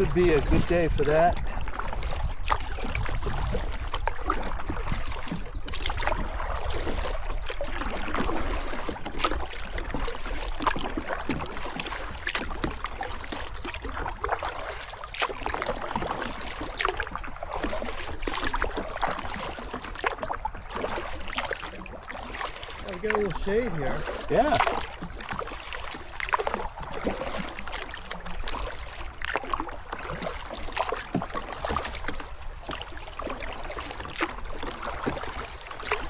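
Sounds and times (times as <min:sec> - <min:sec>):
water splashing around kayak: 0:00.0 - 0:36.0.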